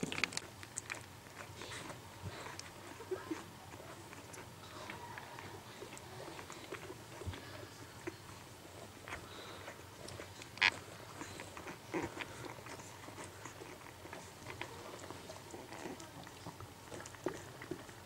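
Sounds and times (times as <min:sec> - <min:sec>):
puppies suckling: 0:00.0 - 0:18.0.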